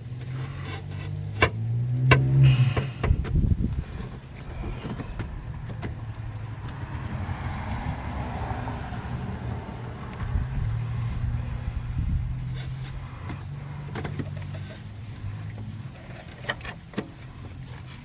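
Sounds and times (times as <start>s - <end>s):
vehicle passing by: 0.4s - 16.6s.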